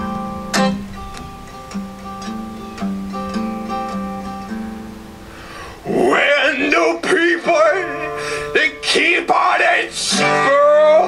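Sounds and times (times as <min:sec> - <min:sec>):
guitar strum: 0:00.0 - 0:11.0
plucked acoustic guitar: 0:00.0 - 0:11.0.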